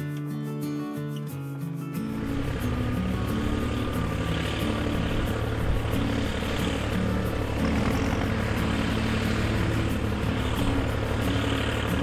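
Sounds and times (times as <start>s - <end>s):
tractor diesel engine under load: 2.2s - 12.0s.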